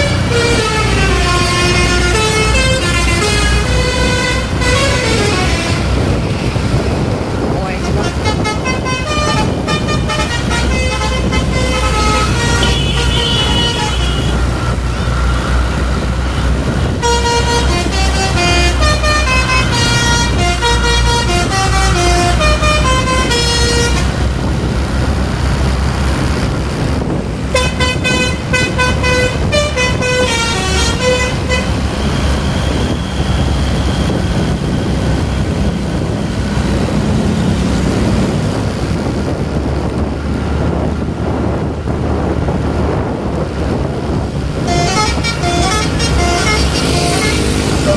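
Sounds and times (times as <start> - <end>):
multi-tone bus horn tune: 0.0 - 24.8, 26.4 - 39.2, 43.8 - 47.9
bus engine running: 0.0 - 47.9.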